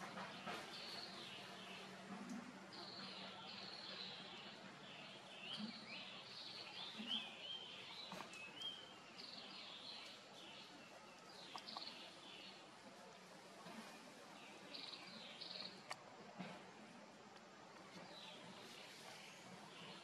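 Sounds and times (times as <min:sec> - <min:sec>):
birds chirping faintly: 0:00.0 - 0:20.0.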